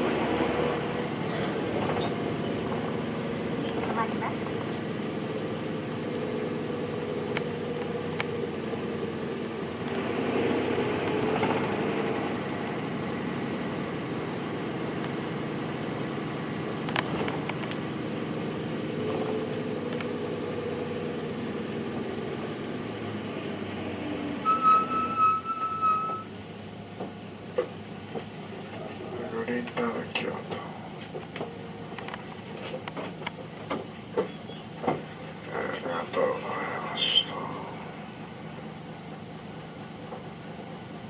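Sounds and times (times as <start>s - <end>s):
bus diesel engine: 0.0s - 41.0s.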